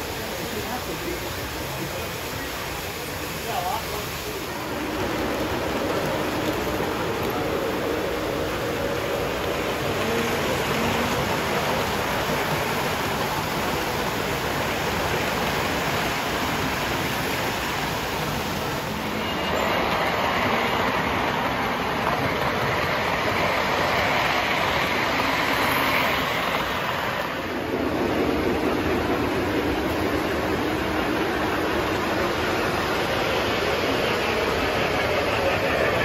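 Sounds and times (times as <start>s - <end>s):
model train wheels rumbling: 0.0s - 36.0s.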